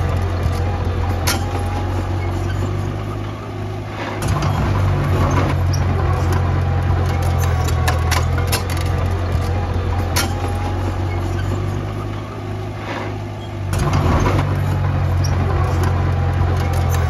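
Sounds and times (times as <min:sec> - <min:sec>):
diesel construction machinery drone: 0:00.0 - 0:17.0.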